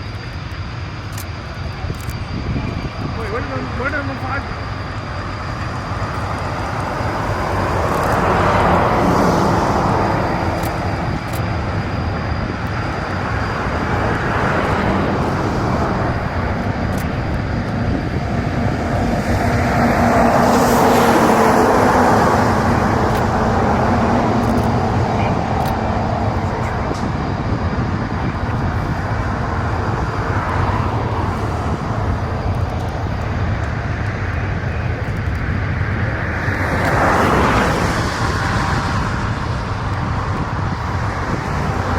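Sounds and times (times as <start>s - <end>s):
aircraft engine drone: 0.0s - 41.9s.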